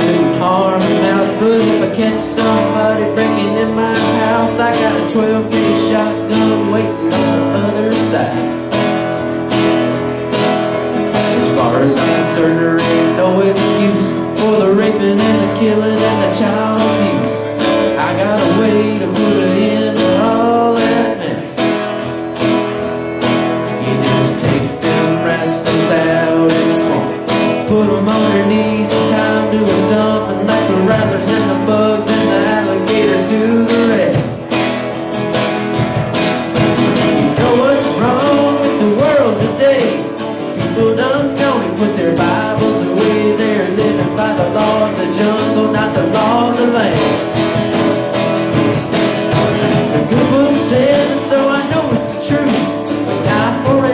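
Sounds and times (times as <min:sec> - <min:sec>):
plucked upright bass: 0:00.0 - 0:53.9
strummed acoustic guitar: 0:00.0 - 0:53.9.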